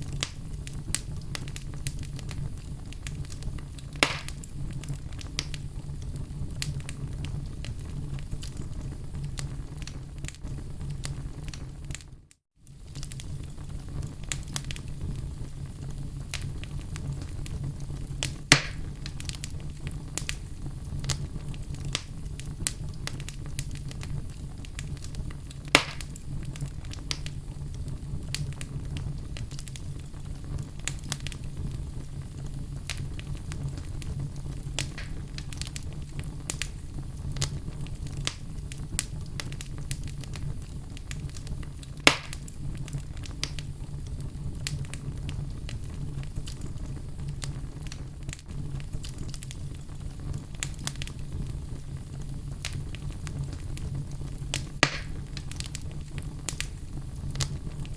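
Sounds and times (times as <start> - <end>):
loud fire pops: 0.0 - 57.9
wood fire crackling: 0.0 - 57.9.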